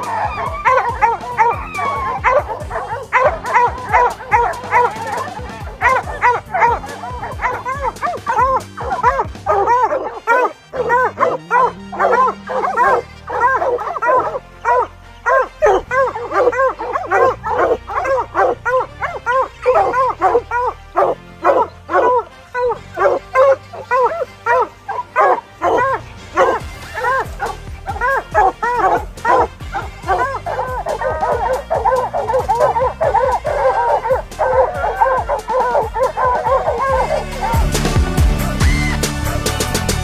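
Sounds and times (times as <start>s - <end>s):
hounds barking: 0.0s - 40.0s
low background music: 0.0s - 40.0s.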